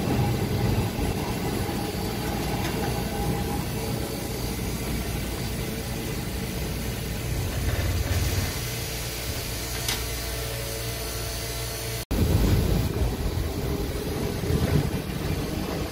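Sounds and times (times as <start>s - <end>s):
streetcar rumbling on track: 0.0s - 15.9s.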